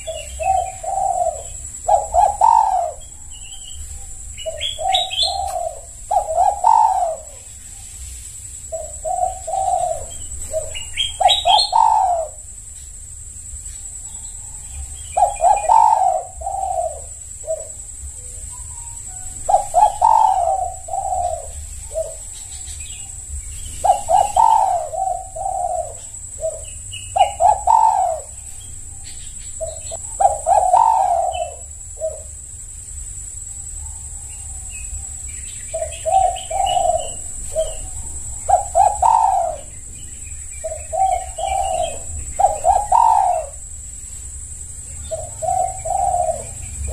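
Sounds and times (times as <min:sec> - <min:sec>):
dove cooing: 0:00.0 - 0:12.6, 0:13.8 - 0:32.4, 0:33.8 - 0:46.9
steady high-pitched hiss: 0:00.0 - 0:46.9.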